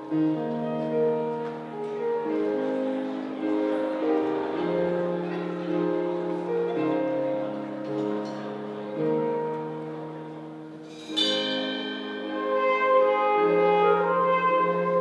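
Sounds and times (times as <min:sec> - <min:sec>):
slow instrumental music: 0:00.0 - 0:15.0.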